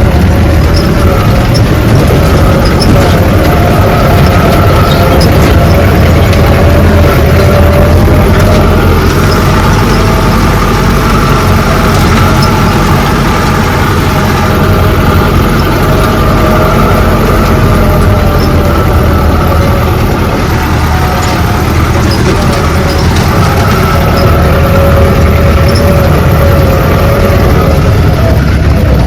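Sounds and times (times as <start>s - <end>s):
road noise: 0.0s - 29.0s
vehicle engine running: 0.0s - 29.0s.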